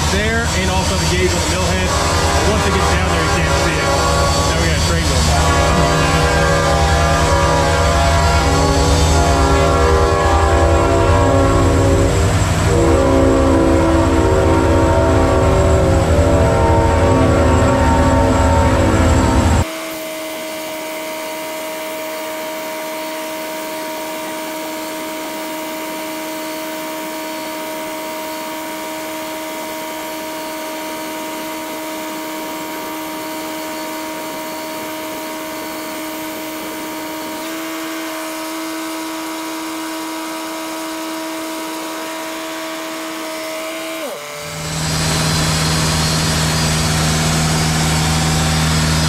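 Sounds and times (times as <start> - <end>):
band sawmill cutting wood: 0.0 - 49.0.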